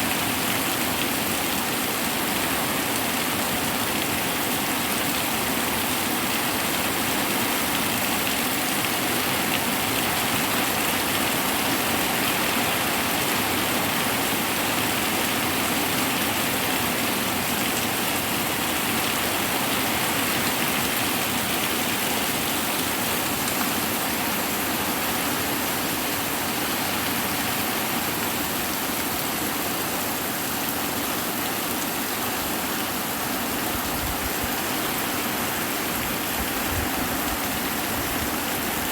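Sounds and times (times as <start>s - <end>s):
hard rain pouring: 0.0s - 38.9s.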